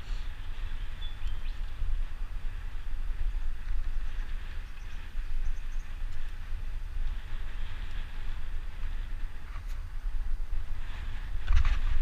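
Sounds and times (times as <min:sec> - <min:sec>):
steady rushing hiss: 0:00.0 - 0:12.0
wind buffeting microphone: 0:00.0 - 0:12.0.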